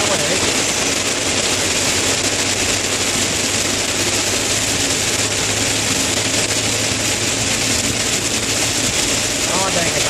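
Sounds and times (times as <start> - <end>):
heavy rain on vehicle: 0.0 - 10.0
low engine hum: 0.0 - 10.0
wet road spray: 0.0 - 10.0.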